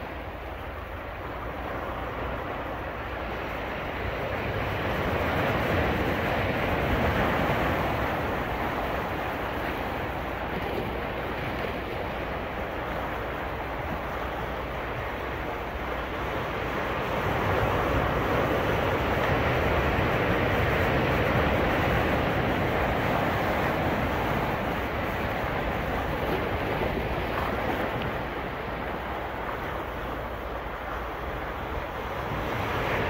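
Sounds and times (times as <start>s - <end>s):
ocean waves breaking: 0.0s - 33.0s.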